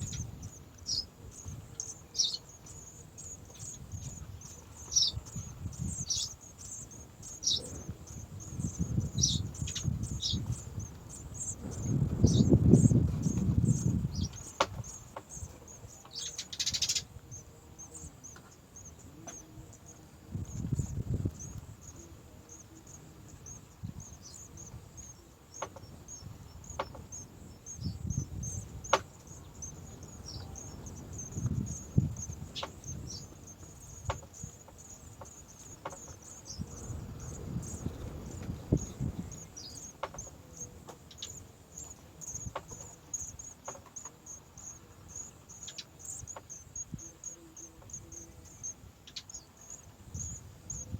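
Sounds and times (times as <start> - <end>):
insects chirping: 0.0 - 50.9
rustle: 0.0 - 50.9.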